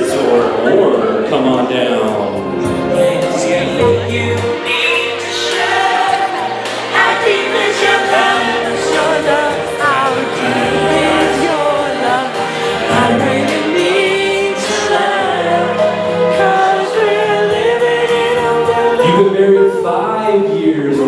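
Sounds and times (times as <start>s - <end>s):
song with sung vocals: 0.0s - 21.0s.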